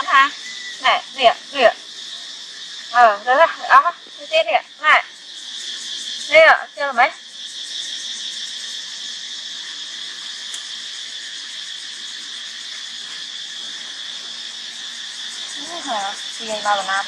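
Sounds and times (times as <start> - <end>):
insect chorus droning: 0.0 - 17.0.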